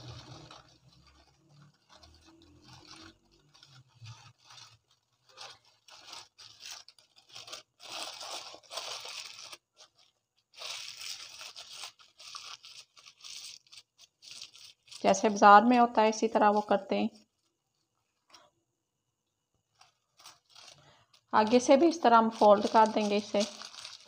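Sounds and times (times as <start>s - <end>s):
paper crinkling and rustling: 0.0s - 17.6s, 19.7s - 24.0s.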